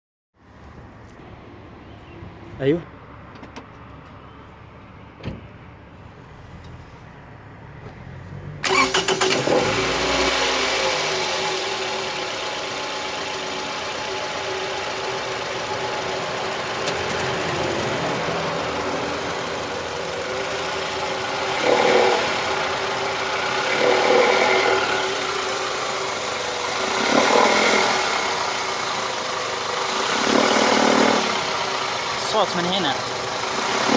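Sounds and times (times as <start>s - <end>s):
car engine starting and idling: 2.9s - 33.9s.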